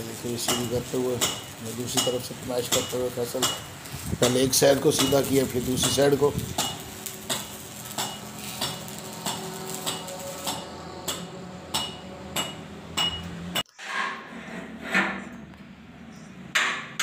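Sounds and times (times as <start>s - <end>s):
hammer striking steel: 0.1s - 13.7s, 16.5s - 17.0s.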